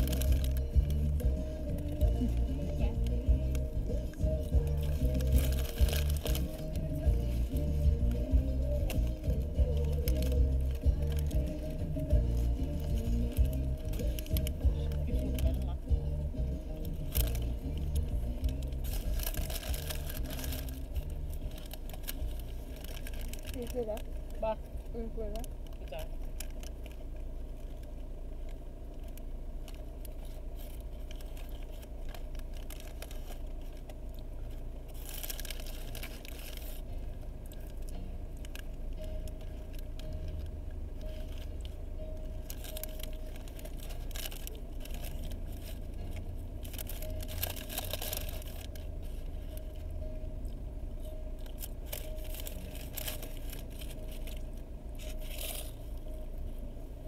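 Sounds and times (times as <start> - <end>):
paper bag rustling and crinkling: 0.0 - 16.1, 16.8 - 28.0, 29.0 - 50.1, 51.0 - 56.6
low hum in car cabin: 0.0 - 57.0.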